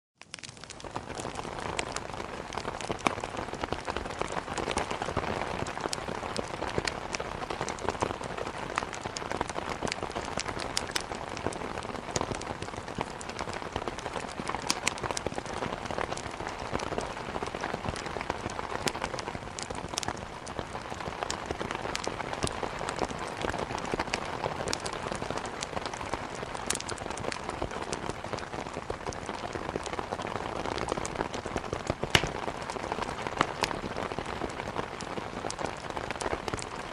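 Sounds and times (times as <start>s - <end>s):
burning wood crackling and popping: 0.2s - 36.9s
steady rain falling: 0.2s - 36.9s.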